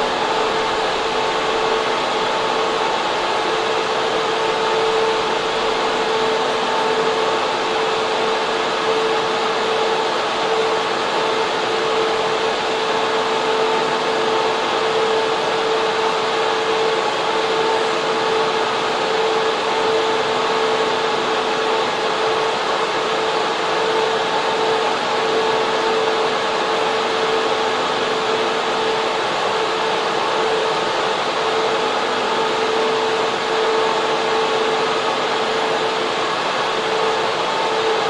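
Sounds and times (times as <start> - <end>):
cooling fans rushing air: 0.0 - 38.0
faint high whine: 0.0 - 38.0.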